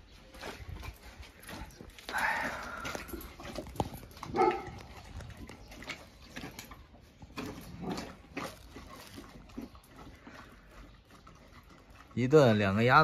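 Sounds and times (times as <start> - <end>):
dog chewing and crunching: 0.0 - 13.0
dog throaty sound: 0.5 - 13.0.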